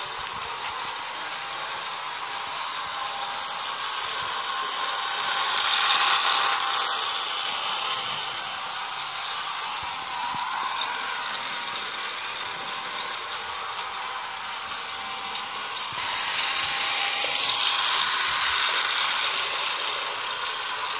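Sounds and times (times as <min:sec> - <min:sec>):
toy train motor whine: 0:00.0 - 0:20.9.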